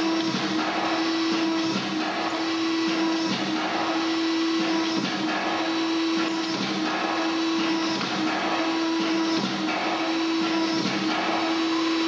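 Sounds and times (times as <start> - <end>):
punching machine whine: 0.0 - 12.0.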